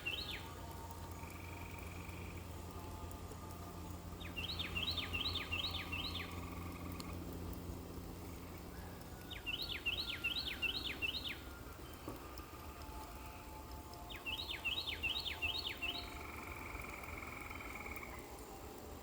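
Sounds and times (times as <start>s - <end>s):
light rain hiss: 0.0s - 19.0s
songbird singing: 0.0s - 19.0s.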